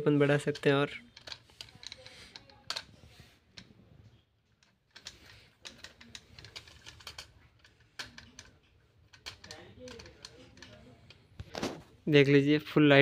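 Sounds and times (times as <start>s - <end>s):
plastic toy ladder clicks and rattles: 0.3s - 3.8s, 4.4s - 11.8s.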